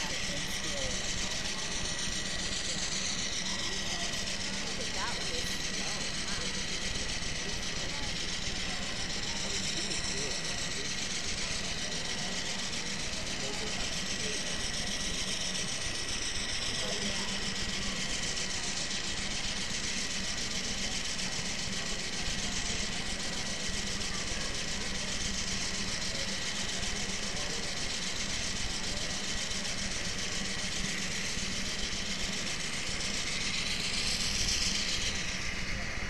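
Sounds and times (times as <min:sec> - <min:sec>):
diesel locomotive engine droning: 0:00.0 - 0:36.0
faint thin whine: 0:00.0 - 0:36.0
hiss: 0:03.5 - 0:36.0.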